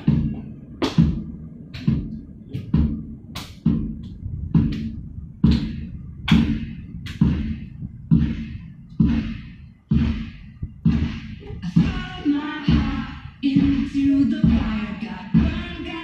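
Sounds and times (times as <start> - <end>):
heavy ringing thumps: 0.0 - 15.8.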